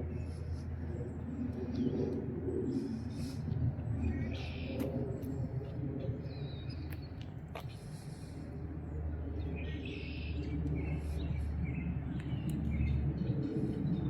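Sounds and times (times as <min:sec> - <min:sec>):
songbirds chirping and trilling: 0:00.0 - 0:14.0
wind rumbling on microphone: 0:00.0 - 0:14.0.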